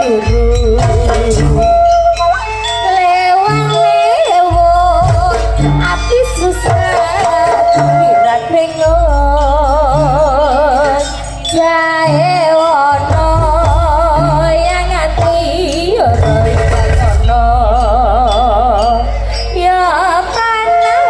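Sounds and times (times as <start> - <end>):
drum pattern: 0.0 - 21.0
vibrato melody line: 0.0 - 21.0.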